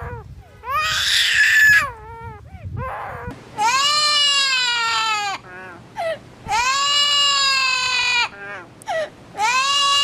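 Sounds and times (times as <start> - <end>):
parrot mimicking crying: 0.0 - 5.8, 6.5 - 8.7, 9.4 - 10.0.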